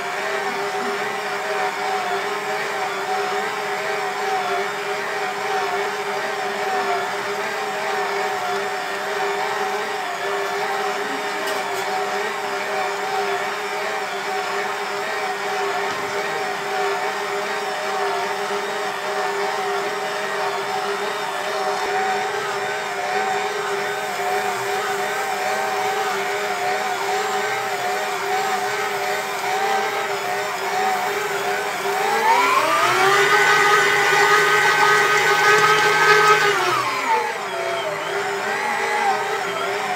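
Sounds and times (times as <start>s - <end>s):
stand mixer motor whining: 0.0s - 39.9s.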